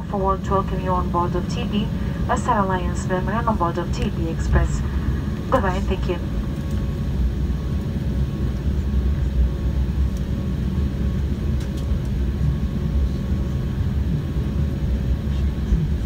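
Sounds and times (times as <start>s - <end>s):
airliner cabin rumble: 0.0s - 16.0s
faint steady hum: 0.0s - 16.0s.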